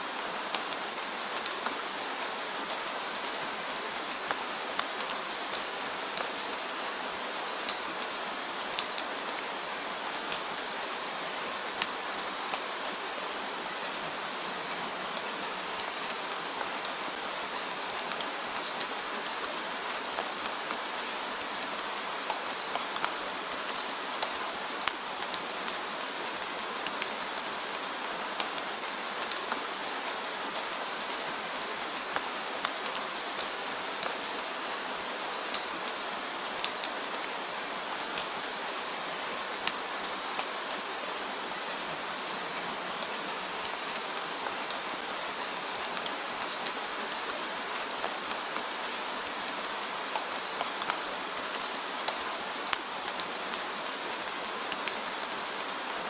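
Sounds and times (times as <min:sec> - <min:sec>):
steady rain: 0:00.0 - 0:56.0
raindrops ticking on a surface: 0:00.1 - 0:56.0.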